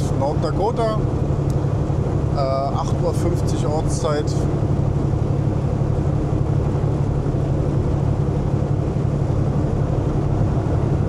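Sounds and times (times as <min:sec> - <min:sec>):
truck engine and road noise drone: 0:00.0 - 0:11.0.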